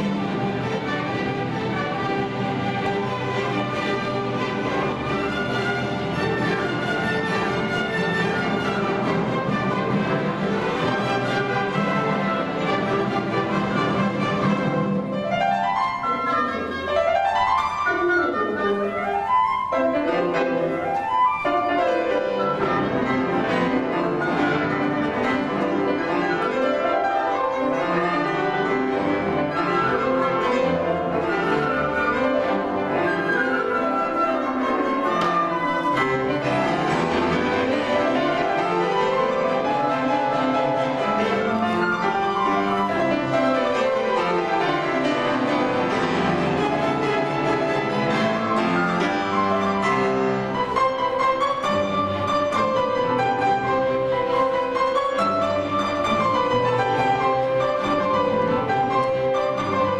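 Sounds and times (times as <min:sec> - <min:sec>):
grand piano runs: 0:00.0 - 0:59.9
orchestra strings accompanying: 0:00.0 - 0:59.9.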